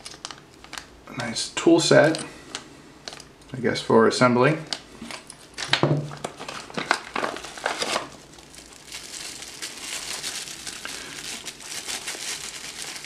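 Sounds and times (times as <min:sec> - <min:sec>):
plastic bags crinkling: 0:00.0 - 0:02.2, 0:04.7 - 0:13.0.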